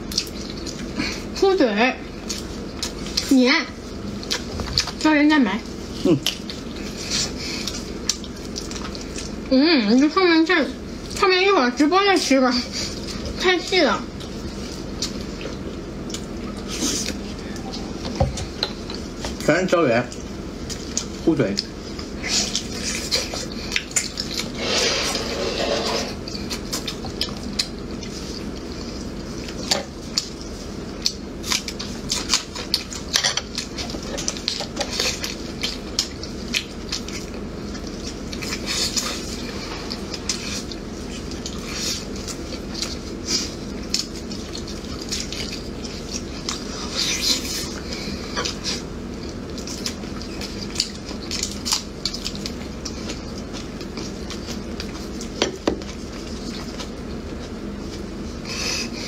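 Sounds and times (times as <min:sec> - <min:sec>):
wet mouth eating sounds: 0:00.0 - 0:01.4, 0:02.1 - 0:05.0, 0:05.7 - 0:10.1, 0:20.0 - 0:59.0.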